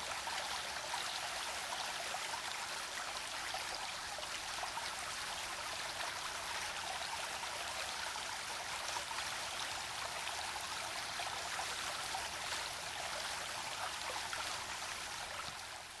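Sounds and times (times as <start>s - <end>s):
brook babbling: 0.0s - 16.0s.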